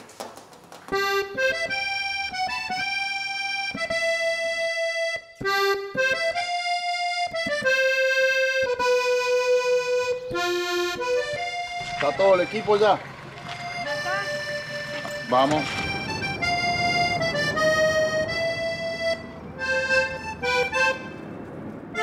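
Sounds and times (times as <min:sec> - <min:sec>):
instrumental background music: 0:01.0 - 0:21.2.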